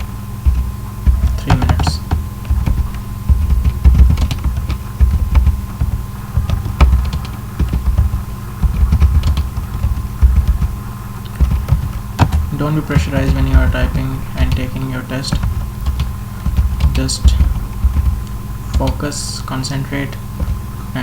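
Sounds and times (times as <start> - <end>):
deep thuds: 0.0 - 21.0
keyboard typing clicks: 0.0 - 21.0
steady hum: 0.0 - 21.0.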